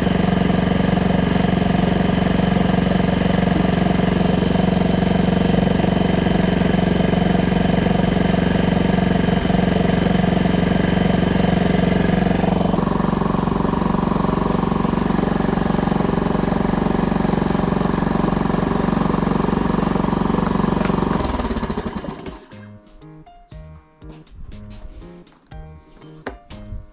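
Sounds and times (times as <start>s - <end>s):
outboard engine running: 0.0s - 22.5s.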